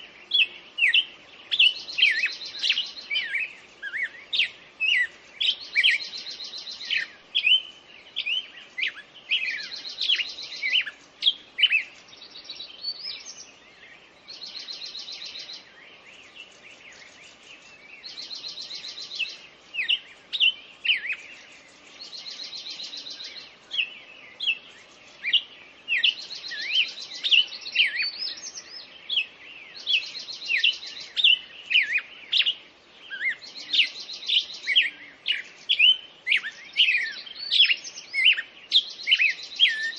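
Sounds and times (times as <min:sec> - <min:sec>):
sweeping whistled bird notes: 0:00.0 - 0:39.9.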